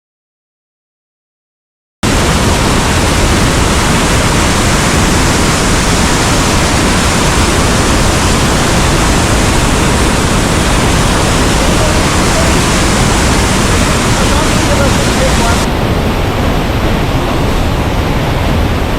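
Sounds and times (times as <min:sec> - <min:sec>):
whitewater rushing: 0:02.0 - 0:18.9.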